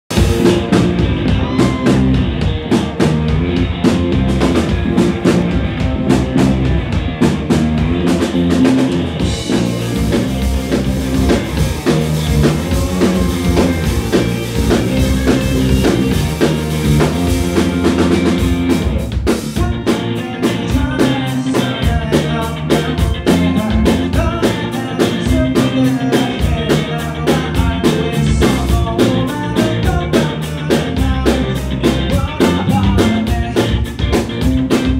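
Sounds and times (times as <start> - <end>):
rock band playing: 0.0 - 34.9
steady drum beat: 0.0 - 34.9.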